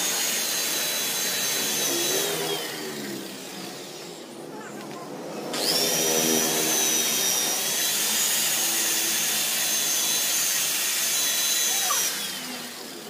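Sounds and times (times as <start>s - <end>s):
electric car polisher whining: 0.0s - 4.4s, 5.1s - 13.0s.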